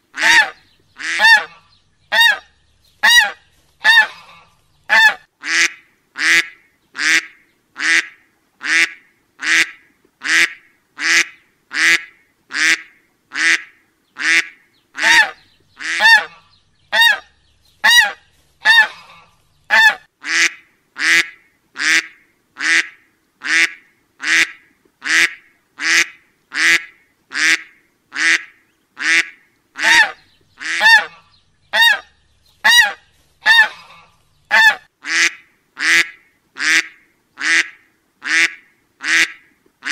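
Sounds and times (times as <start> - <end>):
duck quacking: 0.2 - 39.9.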